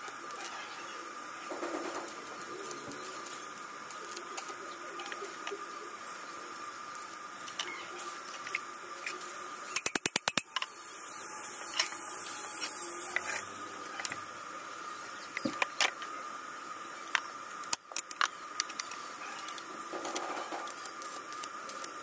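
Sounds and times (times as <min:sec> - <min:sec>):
steady high hum: 0:00.0 - 0:22.0.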